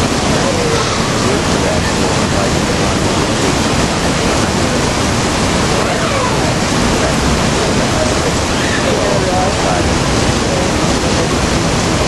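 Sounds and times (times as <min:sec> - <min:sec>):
faint voices: 0:00.0 - 0:12.0
rain pouring onto metal grate: 0:00.0 - 0:12.0.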